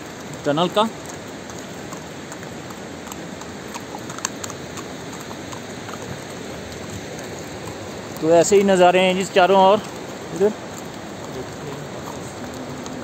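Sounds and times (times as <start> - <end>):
fast mountain river rushing: 0.0 - 13.0.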